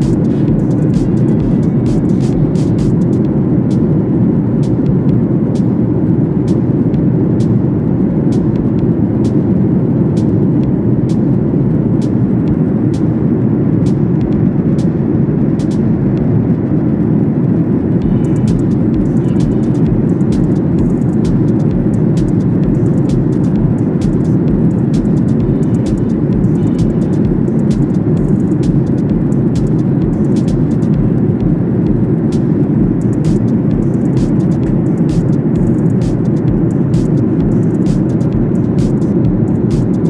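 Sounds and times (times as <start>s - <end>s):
jet airliner cabin rumble: 0.0s - 40.0s.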